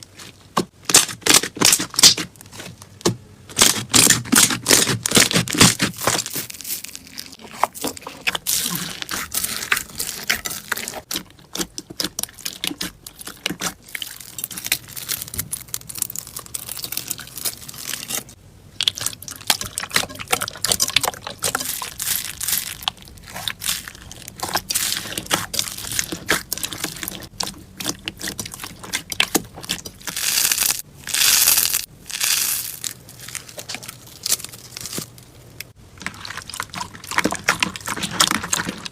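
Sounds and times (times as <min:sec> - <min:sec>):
rustling: 0:03.6 - 0:18.4, 0:19.5 - 0:38.9.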